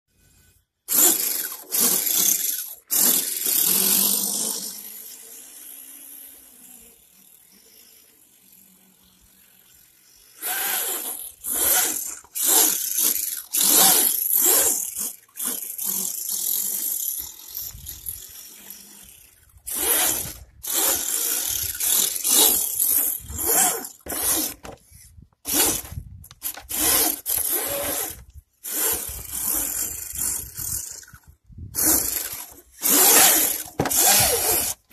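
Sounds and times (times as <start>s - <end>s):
electric motor and gears whirring: 0.1s - 34.9s.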